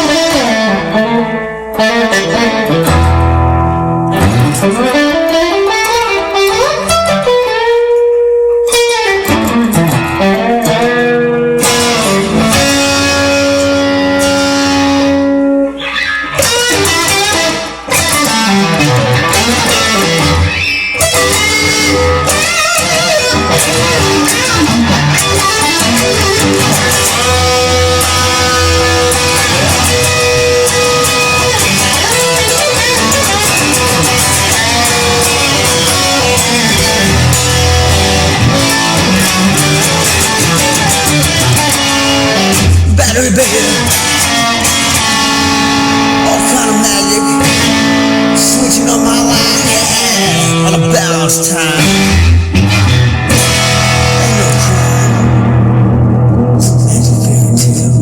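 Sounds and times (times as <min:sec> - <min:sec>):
lead guitar bending notes: 0:00.0 - 0:58.0
backing music: 0:08.7 - 0:58.0.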